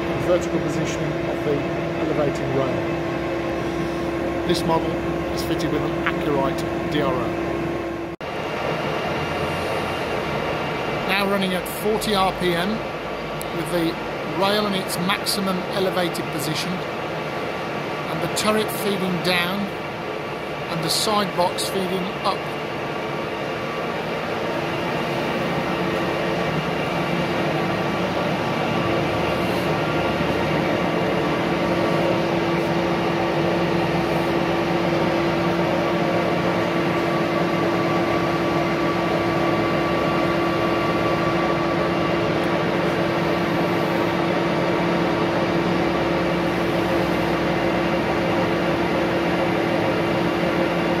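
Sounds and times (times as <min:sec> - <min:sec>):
lathe machine hum: 0:00.0 - 0:51.0.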